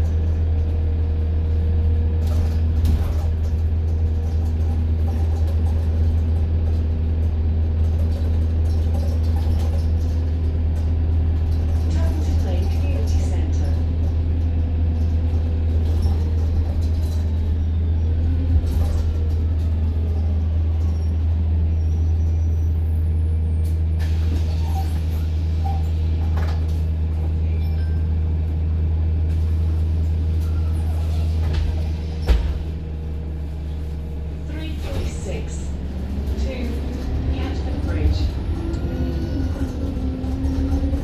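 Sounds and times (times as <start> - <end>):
bus engine drone: 0.0 - 41.0.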